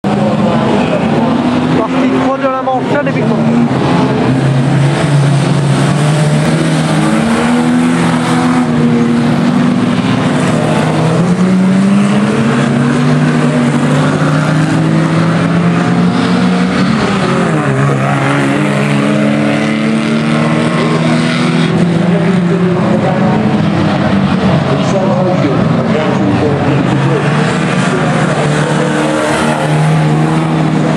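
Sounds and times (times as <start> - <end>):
racing car engines revving: 0.0 - 30.9.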